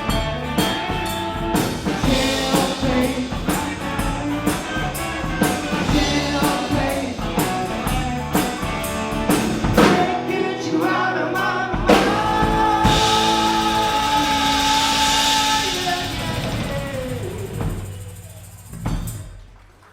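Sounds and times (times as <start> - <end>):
drum beat: 0.0 - 10.3, 11.8 - 19.4
rock and roll band playing: 0.0 - 19.2.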